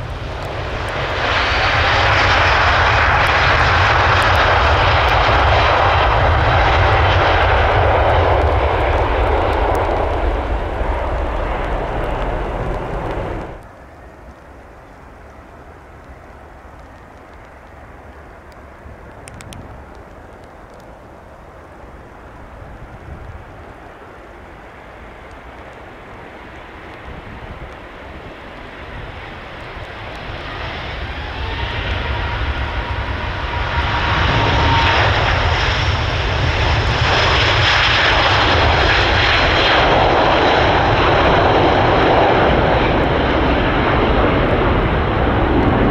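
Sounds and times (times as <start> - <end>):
jet engines at takeoff thrust: 0.0 - 45.9.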